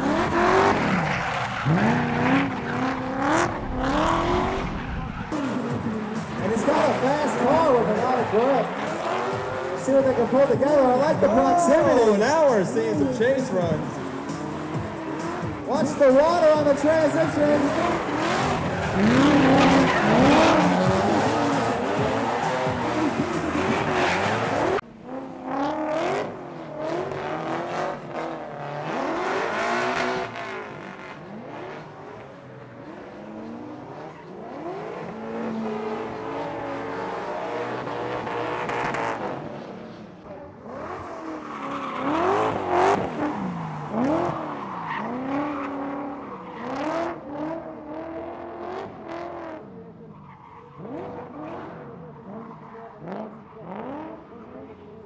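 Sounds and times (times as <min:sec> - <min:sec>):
car engine revving: 0:00.0 - 0:49.7, 0:50.7 - 0:54.7.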